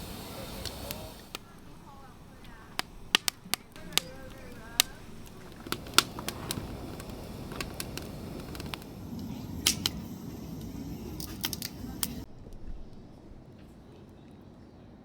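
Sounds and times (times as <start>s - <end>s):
low rush of flame: 0.0s - 14.0s
wood fire crackling and popping: 0.0s - 14.3s.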